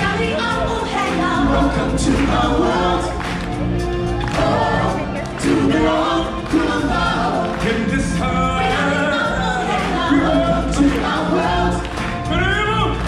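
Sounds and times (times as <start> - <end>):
choir singing: 0.0 - 13.0
musical accompaniment with bass: 0.0 - 13.0.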